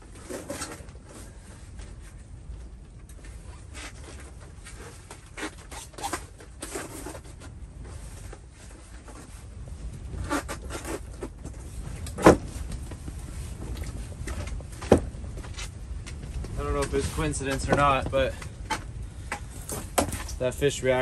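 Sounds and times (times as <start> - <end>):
soft rustling: 0.1 - 21.0.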